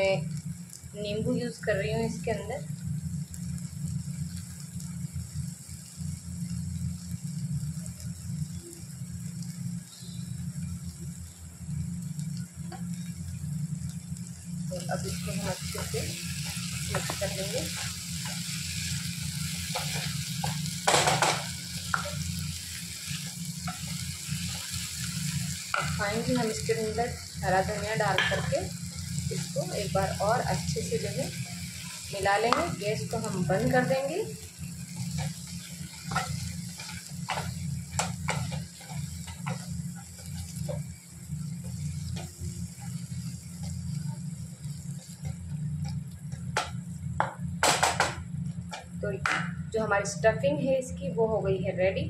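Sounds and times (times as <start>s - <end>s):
low sizzle: 0.0s - 52.0s
steady low hum: 0.0s - 52.0s.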